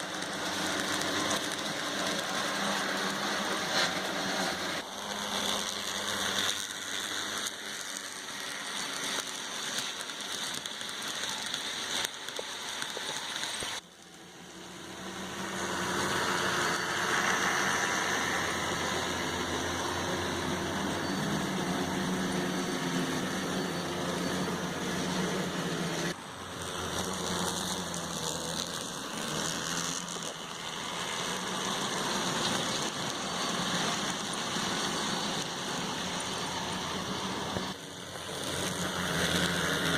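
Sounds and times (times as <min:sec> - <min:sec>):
model train motor whirring: 0:00.0 - 0:39.9
wheels rolling on track: 0:00.0 - 0:39.9.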